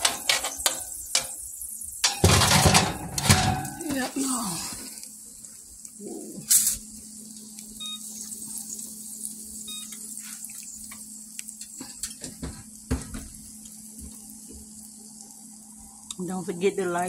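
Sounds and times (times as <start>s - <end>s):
frying in hot oil: 0.0s - 17.0s.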